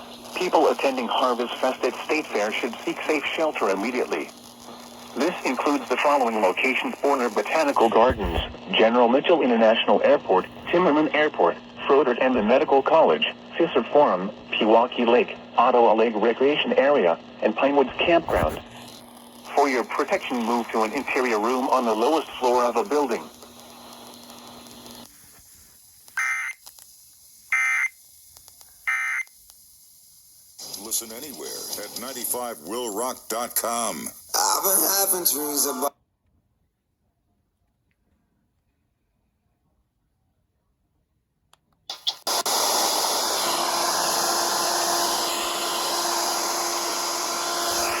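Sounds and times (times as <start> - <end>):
radio static hiss: 0.0 - 35.9, 41.9 - 48.0.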